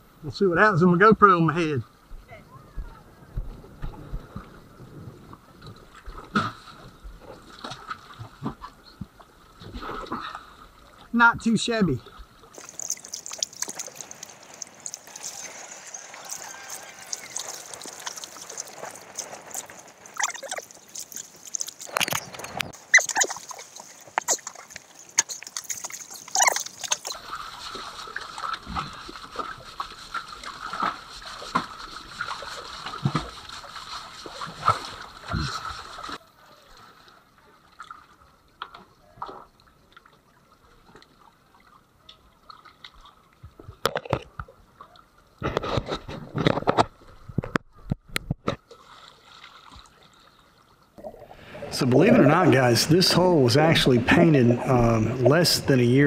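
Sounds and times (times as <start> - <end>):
water splashing and sloshing: 2.9 - 56.0.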